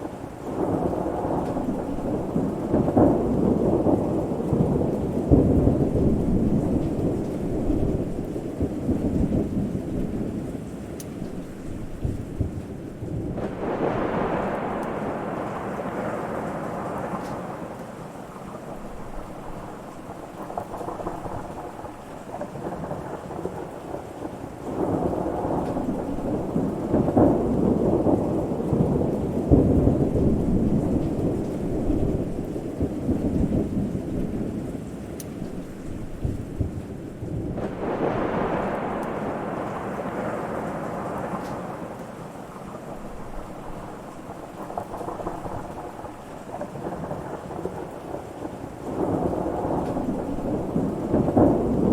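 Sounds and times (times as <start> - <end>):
steady rain: 0.0 - 51.9
thunder rumbling: 0.0 - 51.9.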